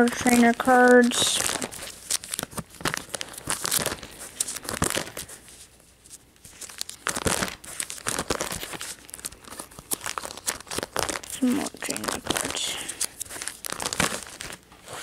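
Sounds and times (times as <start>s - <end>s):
plastic sleeves crinkling: 0.0s - 15.0s.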